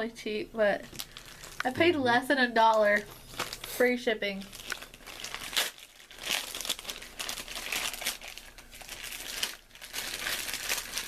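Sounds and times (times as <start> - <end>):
plastic packaging crinkling: 0.6 - 11.0.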